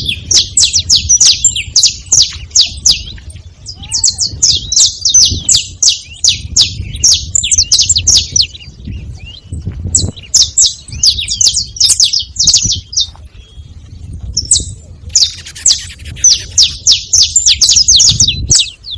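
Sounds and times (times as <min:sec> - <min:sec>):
finch chirping: 0:00.0 - 0:13.7, 0:14.3 - 0:18.9.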